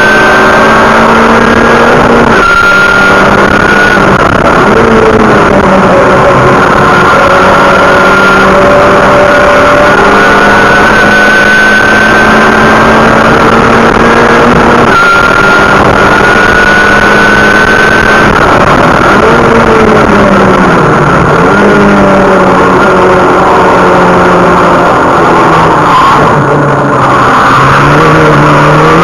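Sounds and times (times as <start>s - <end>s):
car engine accelerating: 0.0s - 29.0s
road and wind noise: 0.0s - 29.0s.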